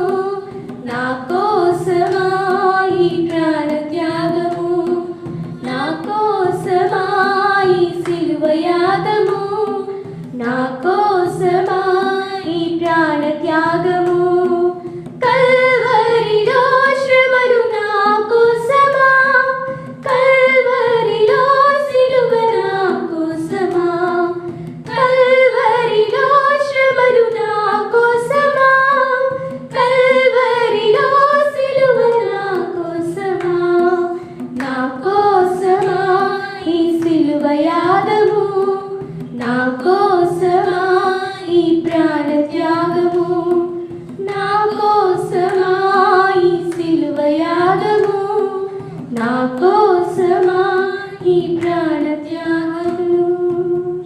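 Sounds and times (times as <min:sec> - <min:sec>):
women singing a hymn unaccompanied: 0:00.0 - 0:54.0.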